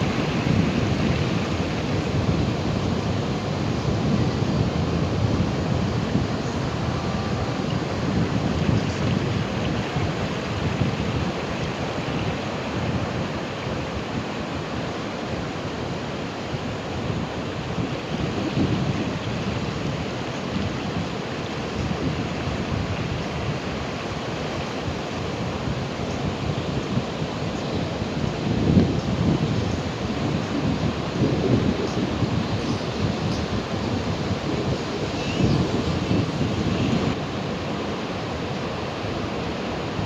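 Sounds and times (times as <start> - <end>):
ocean waves washing in: 0.0 - 40.0.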